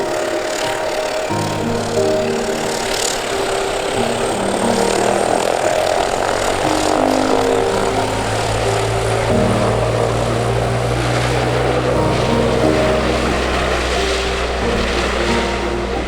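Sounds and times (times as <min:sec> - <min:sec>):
background music: 0:00.0 - 0:16.0
propeller aircraft engine noise: 0:00.0 - 0:16.0.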